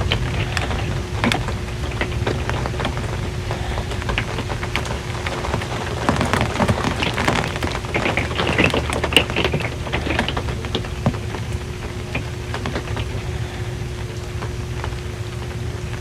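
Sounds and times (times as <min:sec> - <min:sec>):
rain on a metal roof: 0:00.0 - 0:16.0
steady low hum: 0:00.0 - 0:16.0.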